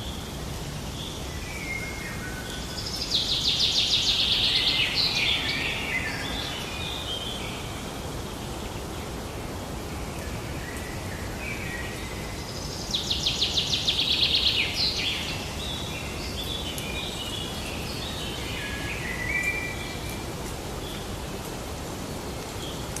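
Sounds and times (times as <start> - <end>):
outdoor hiss: 0.0 - 23.0
songbirds singing: 0.0 - 23.0.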